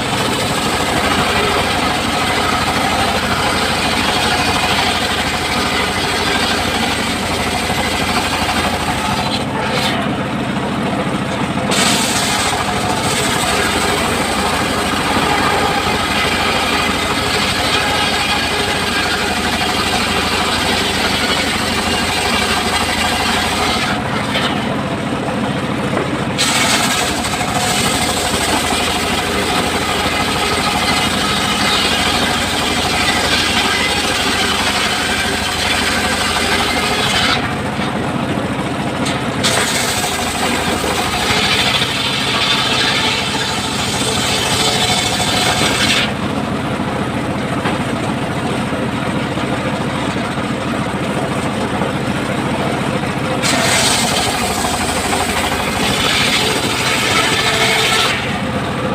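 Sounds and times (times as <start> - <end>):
circular saw cutting timber: 0.0 - 58.9
saw drive hum: 0.0 - 58.9.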